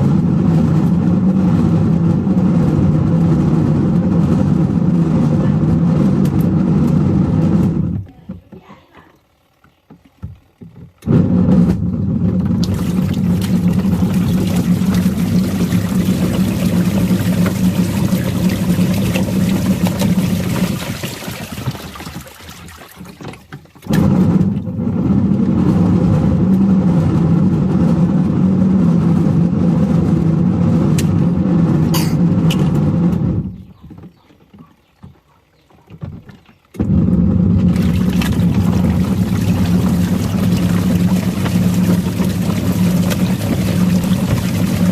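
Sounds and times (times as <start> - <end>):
water churning in drum: 0.0 - 8.6, 9.6 - 44.9
washing machine motor running: 0.0 - 44.9.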